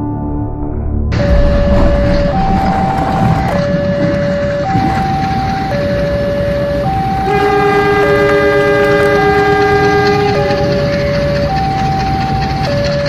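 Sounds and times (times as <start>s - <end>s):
locomotive horn chord: 1.1s - 11.9s
level crossing two-tone alarm: 1.1s - 13.0s.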